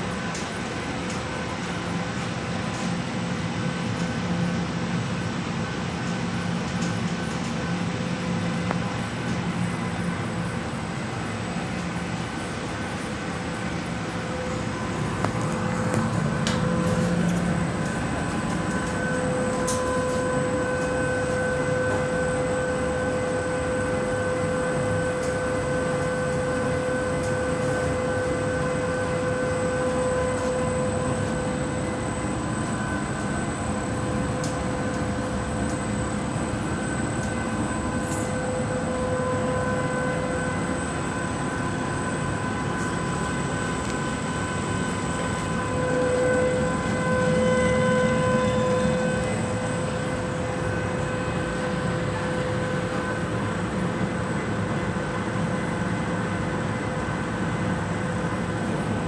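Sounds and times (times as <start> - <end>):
washing machine rumble: 0.0 - 59.0
motor whine: 7.2 - 59.0.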